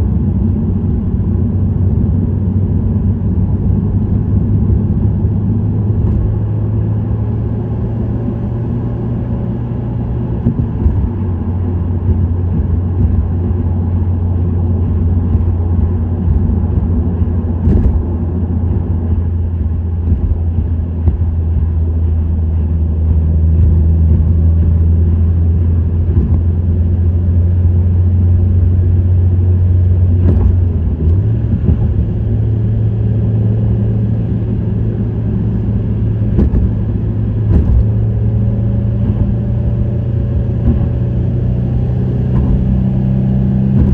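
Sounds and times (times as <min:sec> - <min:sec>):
car engine droning: 0:00.0 - 0:43.9.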